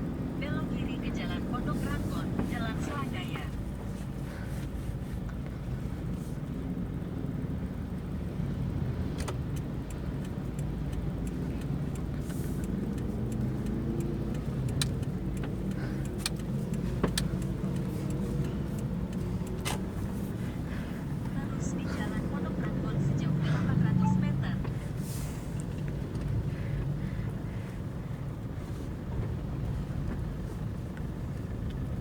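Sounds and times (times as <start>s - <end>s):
diesel engine running: 0.0s - 32.0s
road noise: 0.0s - 32.0s.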